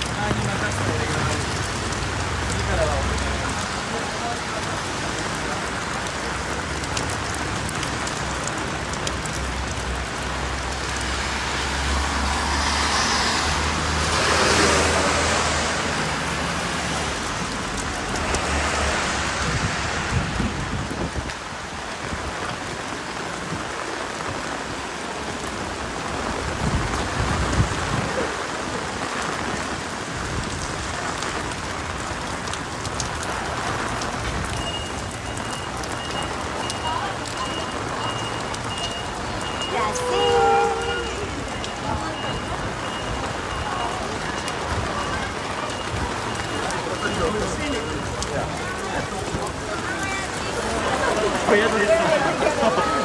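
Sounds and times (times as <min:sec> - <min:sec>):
steady rain on street: 0:00.0 - 0:53.0
vehicle passing on wet road: 0:00.0 - 0:53.0.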